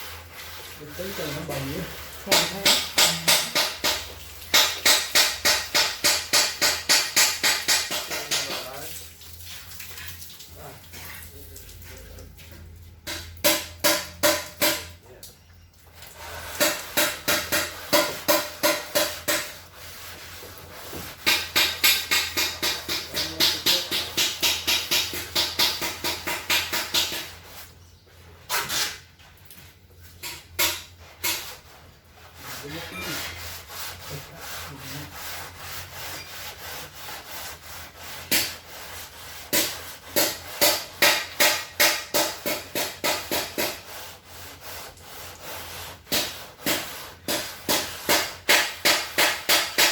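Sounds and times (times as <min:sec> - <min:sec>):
sandpaper rasping on metal panel: 0:00.0 - 0:09.0, 0:16.1 - 0:29.1, 0:30.0 - 0:49.9.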